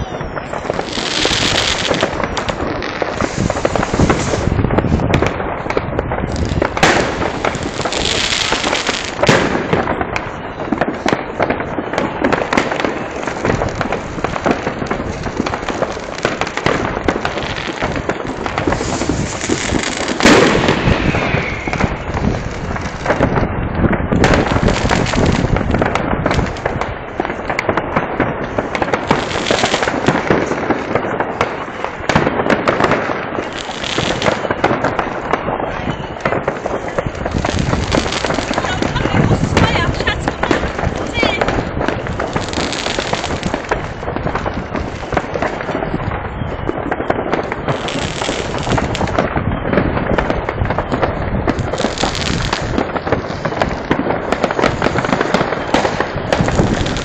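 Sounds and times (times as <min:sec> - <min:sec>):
fireworks banging and crackling: 0:00.0 - 0:57.0.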